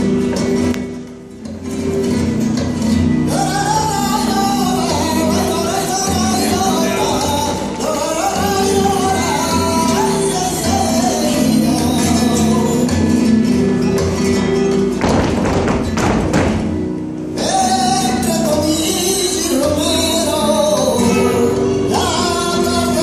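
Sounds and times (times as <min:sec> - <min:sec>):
flamenco music with singing: 0:00.0 - 0:23.0.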